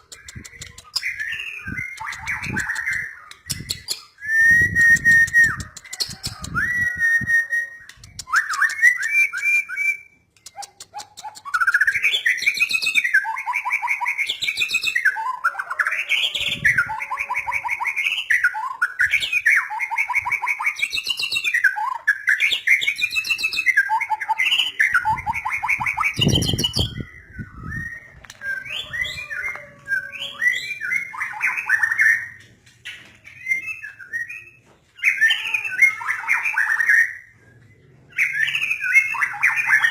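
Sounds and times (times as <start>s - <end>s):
bird singing whistles and trills: 0.0s - 10.6s, 11.2s - 39.9s.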